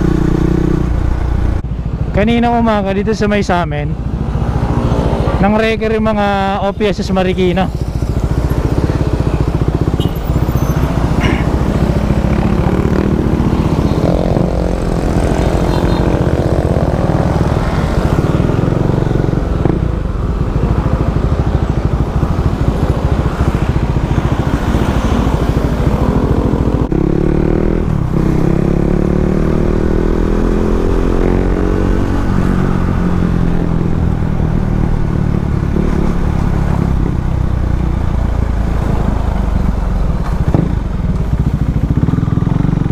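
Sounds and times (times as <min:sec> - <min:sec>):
motorcycle engine accelerating: 0:00.0 - 0:02.1, 0:07.2 - 0:42.9.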